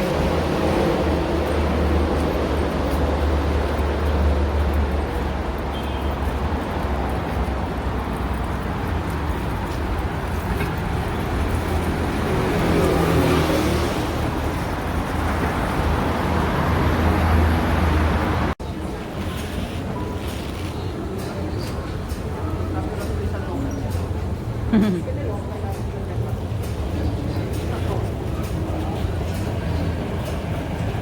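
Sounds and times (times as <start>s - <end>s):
rumble of road traffic: 0.0s - 31.0s.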